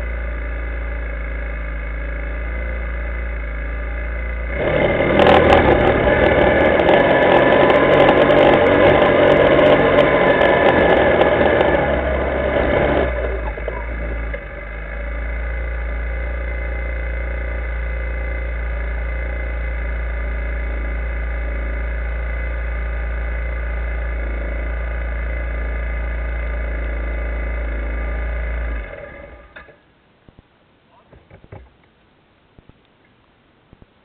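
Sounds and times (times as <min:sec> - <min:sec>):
quad engine idling: 0:00.0 - 0:29.9.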